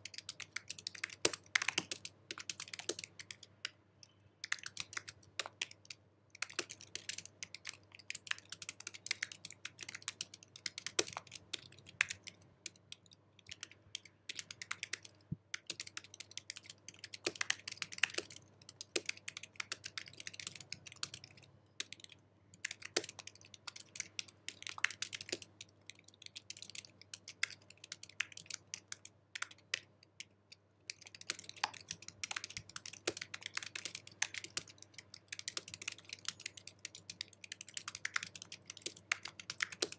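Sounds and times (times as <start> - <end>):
keyboard typing clicks: 0.0 - 30.3, 30.9 - 39.9.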